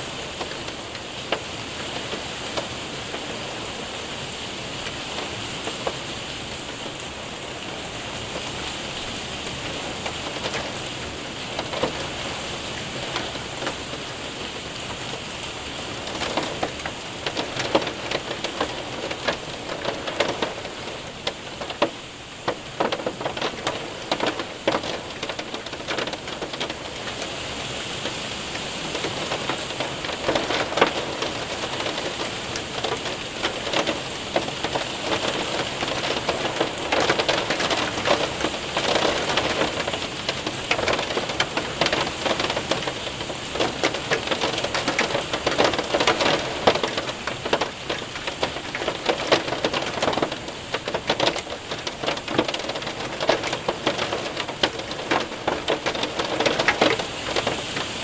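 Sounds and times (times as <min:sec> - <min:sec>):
hailstones ticking on window: 0:00.0 - 0:58.0
rain hiss: 0:00.0 - 0:58.0.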